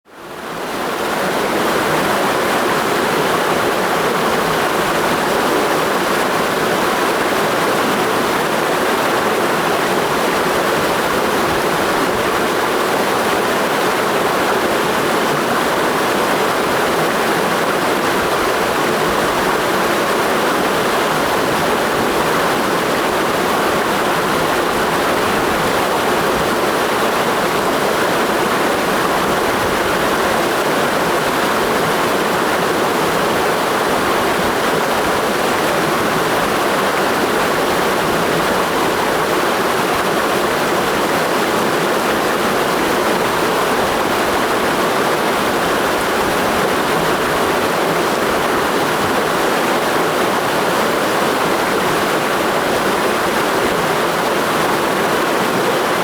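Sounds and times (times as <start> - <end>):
mountain stream running: 0.2 - 56.0.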